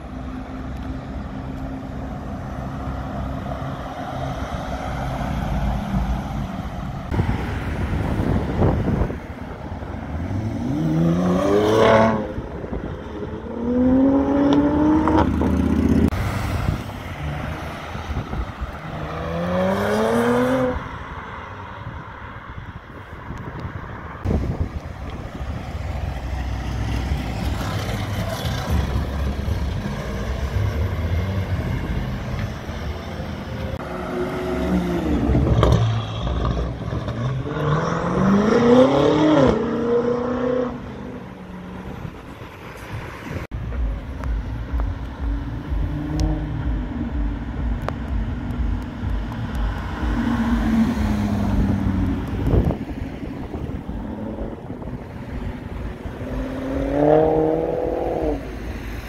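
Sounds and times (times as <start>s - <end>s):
cars accelerating and passing: 0.0s - 59.0s.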